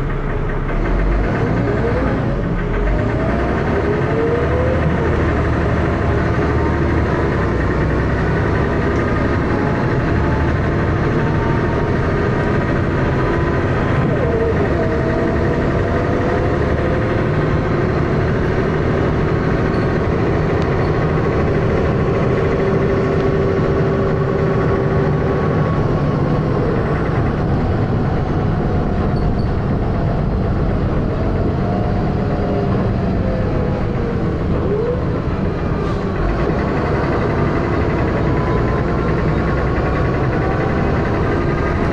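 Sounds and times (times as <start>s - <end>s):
bus engine running loudly: 0.0s - 41.9s.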